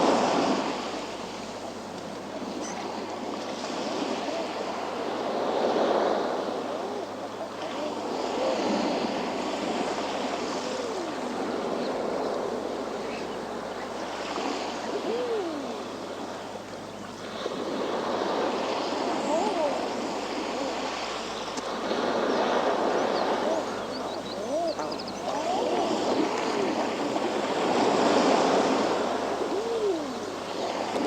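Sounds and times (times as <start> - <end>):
waves washing on rocky shore: 0.0 - 31.0
seabird calls: 0.4 - 31.0.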